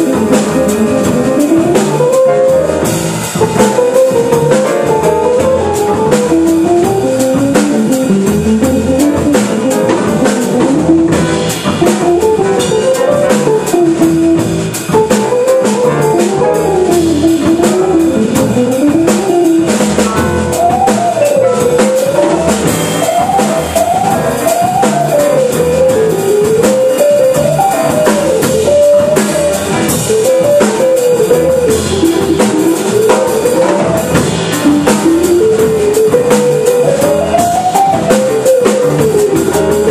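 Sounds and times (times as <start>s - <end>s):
drum kit keeping time: 0.0s - 39.9s
electric guitar melody: 0.0s - 39.9s.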